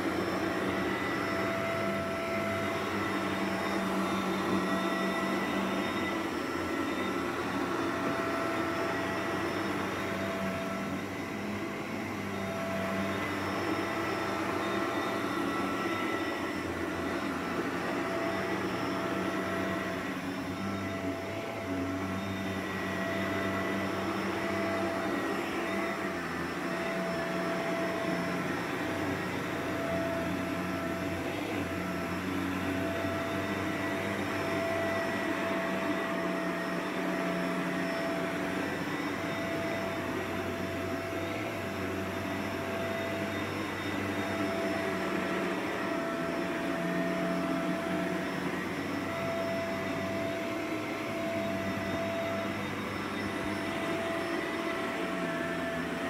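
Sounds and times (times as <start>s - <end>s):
vacuum cleaner on carpet: 0.0s - 56.0s.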